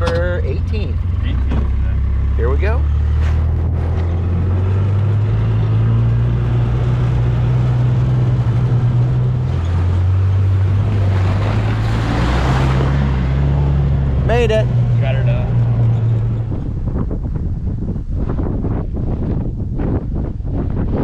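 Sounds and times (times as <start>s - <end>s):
vehicle engine running: 0.0s - 19.5s.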